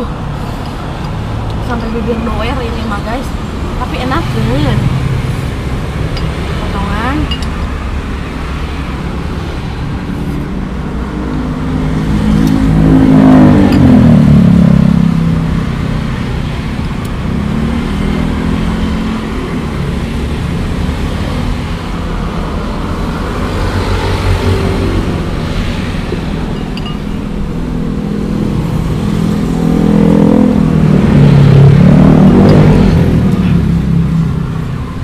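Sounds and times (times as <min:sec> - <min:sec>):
traffic drone: 0:00.0 - 0:35.0
vehicle engine passing by: 0:00.0 - 0:35.0.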